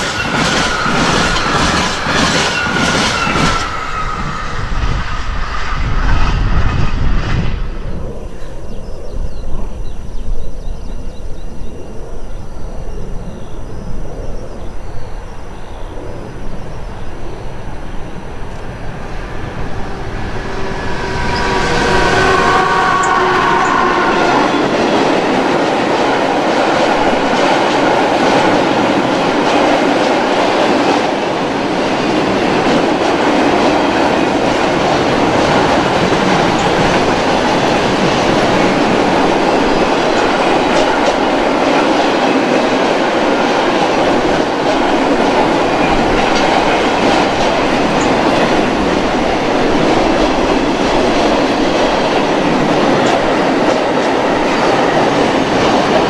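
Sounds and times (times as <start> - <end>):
steel wheels rattling on rails: 0.0 - 8.1, 17.4 - 56.0.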